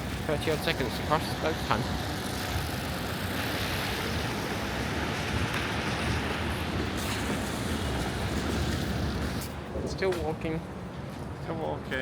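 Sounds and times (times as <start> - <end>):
wind buffeting microphone: 0.0 - 11.4
city street traffic: 0.0 - 12.0.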